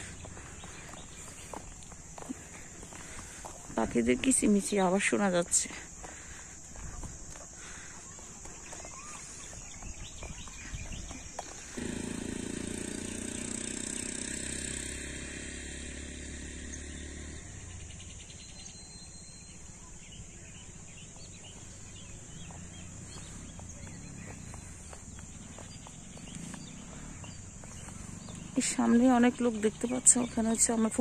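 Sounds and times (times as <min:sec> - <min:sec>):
birds chirping: 0:00.0 - 0:31.0
high insect drone: 0:00.0 - 0:31.0.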